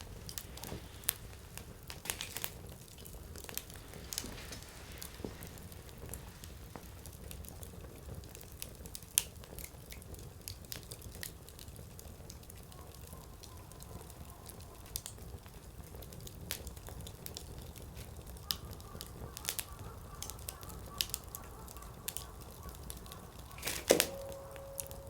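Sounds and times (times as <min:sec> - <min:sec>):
crackles and pops of firewood: 0:00.0 - 0:25.0
low rumble of flames: 0:00.0 - 0:25.0.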